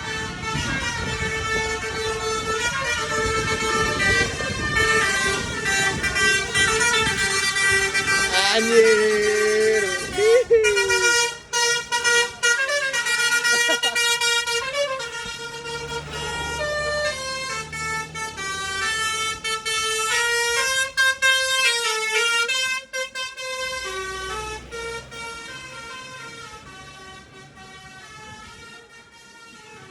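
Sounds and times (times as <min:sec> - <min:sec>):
low engine rumble: 0:00.0 - 0:29.9
multi-tone air horn melody: 0:00.0 - 0:29.9.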